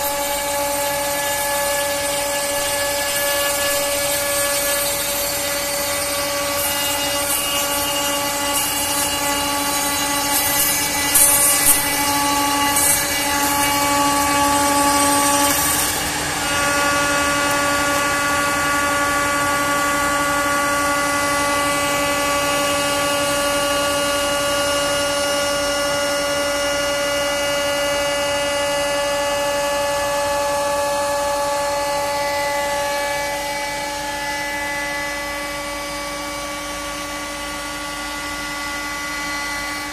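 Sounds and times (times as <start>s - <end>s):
router spindle whine: 0.0s - 39.9s
wood cutting noise: 0.0s - 39.9s.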